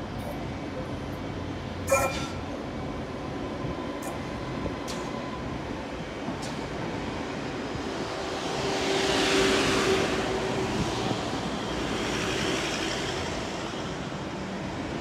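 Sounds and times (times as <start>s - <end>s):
train rumbling slowly: 0.0s - 15.0s.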